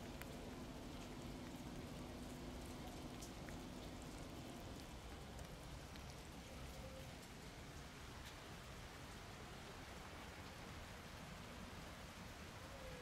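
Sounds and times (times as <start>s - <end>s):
light rain hiss: 0.0s - 13.0s
small drips and ticks: 0.0s - 13.0s.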